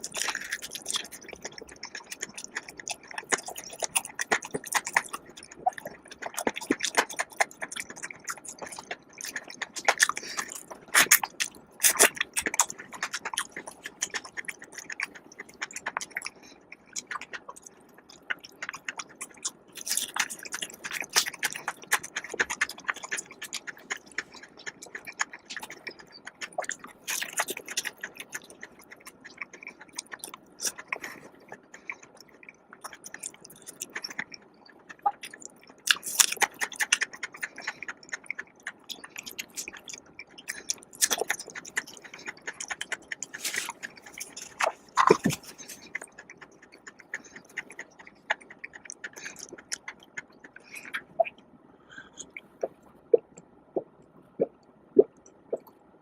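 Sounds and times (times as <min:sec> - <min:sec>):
person chewing and biting food: 0:00.0 - 0:55.7
wet mouth clicks: 0:00.0 - 0:55.8.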